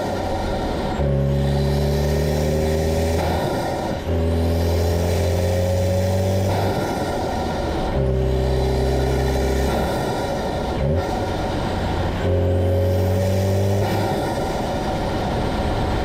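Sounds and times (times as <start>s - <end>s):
turbocharged car engine revving: 0.0s - 16.0s.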